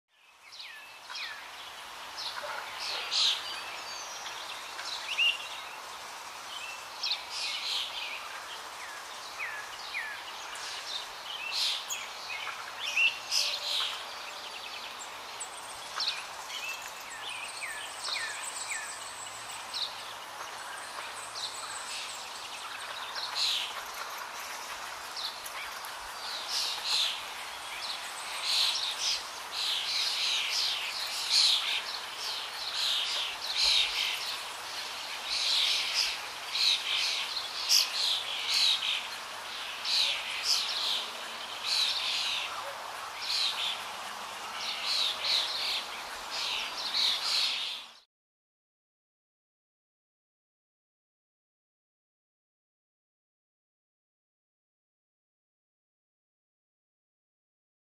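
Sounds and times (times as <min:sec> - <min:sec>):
outdoor background noise: 0:00.1 - 0:48.1
small birds chirping: 0:00.1 - 0:48.1.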